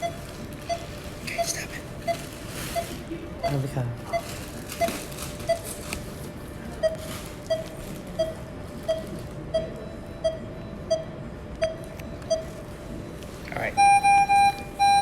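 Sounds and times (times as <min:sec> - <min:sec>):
patient monitor beeping: 0:00.0 - 0:05.8, 0:06.8 - 0:15.0.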